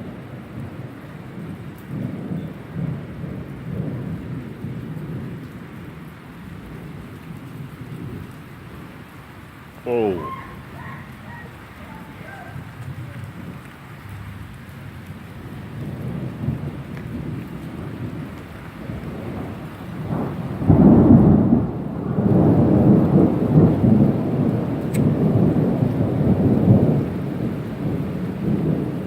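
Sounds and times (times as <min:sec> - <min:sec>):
thunder clap and rumbles: 0:00.0 - 0:09.1, 0:09.8 - 0:29.0
steady heavy rain: 0:00.0 - 0:29.0.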